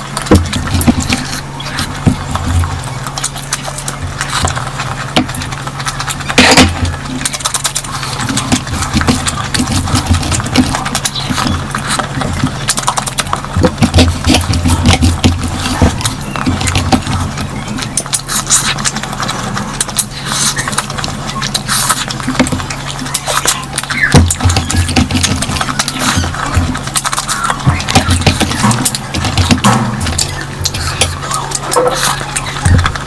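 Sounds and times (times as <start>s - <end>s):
person chewing with mouth smacks: 0.0s - 33.0s
steady low hum: 0.0s - 33.0s.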